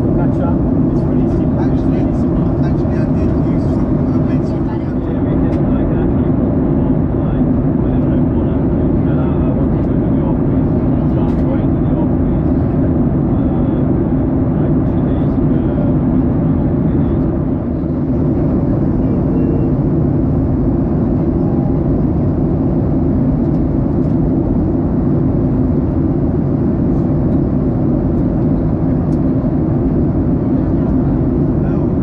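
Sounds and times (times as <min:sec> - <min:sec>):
jet engine roar in cabin: 0:00.0 - 0:32.0.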